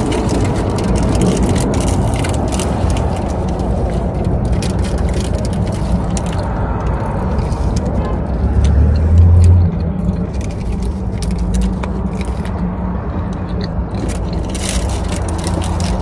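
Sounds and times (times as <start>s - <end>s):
chewing and crunching: 0.0s - 16.0s
low rumble: 0.0s - 16.0s.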